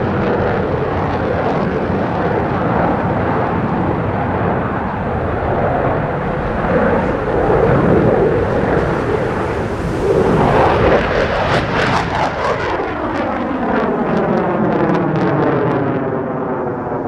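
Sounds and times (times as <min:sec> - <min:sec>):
fighter jet roaring past: 0:00.0 - 0:17.0.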